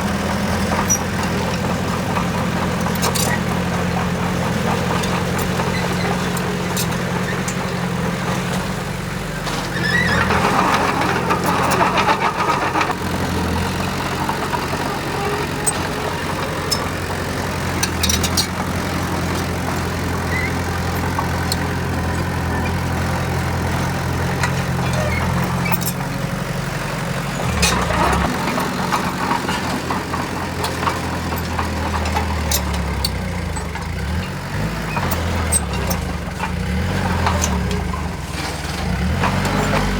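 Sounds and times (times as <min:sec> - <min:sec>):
diesel engine running: 0:00.0 - 0:39.9
louder harsh engine sound: 0:00.0 - 0:39.9.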